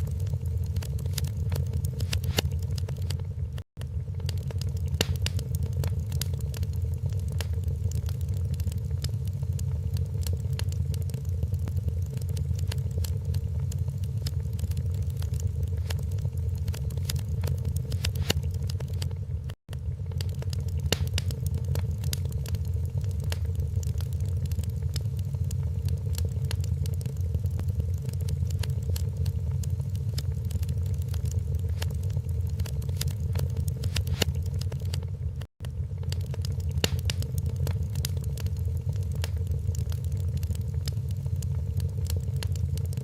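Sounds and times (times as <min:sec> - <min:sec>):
low rumble: 0:00.0 - 0:43.0
sharp pops and snaps: 0:00.0 - 0:43.0
wood fire crackling: 0:00.0 - 0:43.0.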